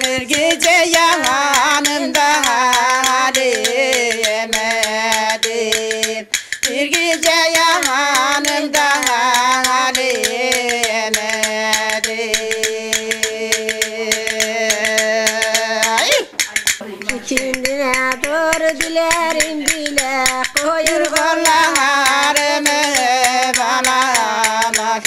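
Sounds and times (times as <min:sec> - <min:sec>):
women singing folk song: 0:00.0 - 0:25.0.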